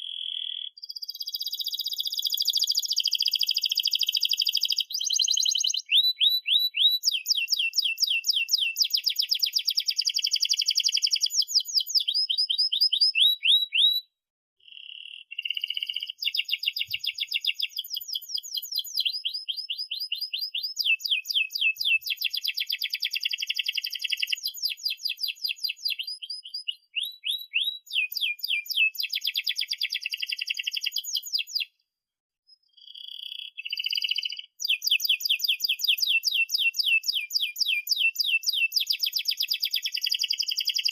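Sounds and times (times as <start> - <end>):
canary singing trills: 0.0 - 31.8, 32.5 - 40.9.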